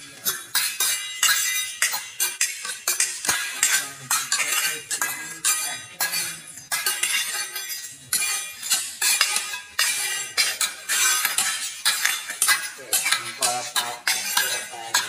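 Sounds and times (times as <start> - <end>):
metal scraper scraping concrete: 0.2 - 15.0.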